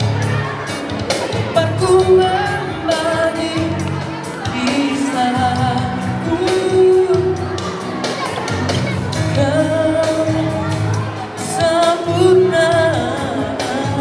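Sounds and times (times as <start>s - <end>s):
backing music with steady beat: 0.0s - 14.0s
boy singing into a microphone: 1.4s - 14.0s.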